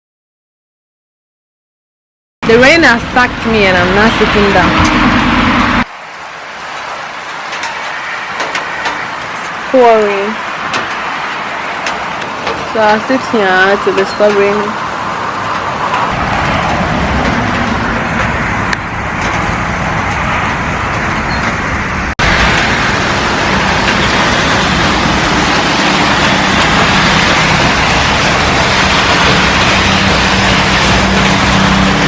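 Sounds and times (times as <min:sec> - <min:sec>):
heavy rain pouring: 0:02.5 - 0:32.0.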